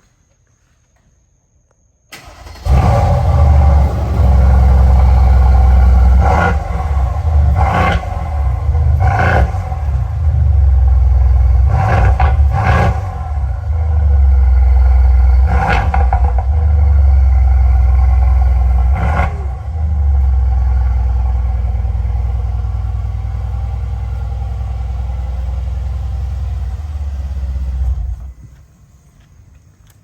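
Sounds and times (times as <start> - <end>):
car exhaust idling: 2.7 - 28.6.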